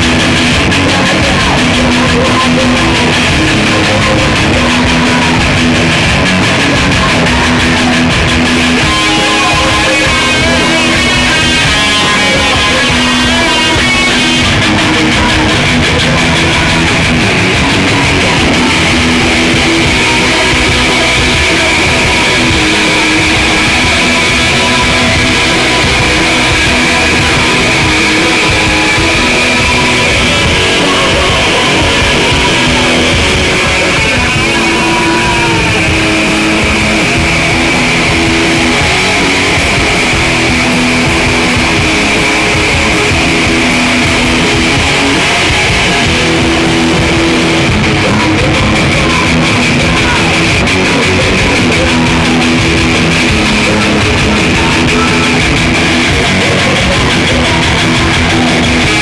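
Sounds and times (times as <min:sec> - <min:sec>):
distorted electric guitar: 0:00.0 - 0:59.0
drums: 0:00.0 - 0:59.0
electric bass: 0:00.0 - 0:59.0.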